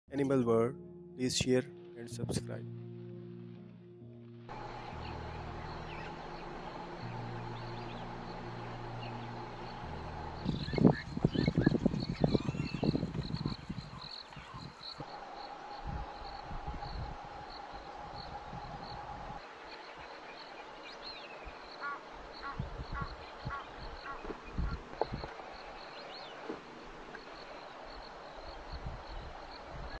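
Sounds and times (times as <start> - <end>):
insect chirping: 4.5 - 30.0.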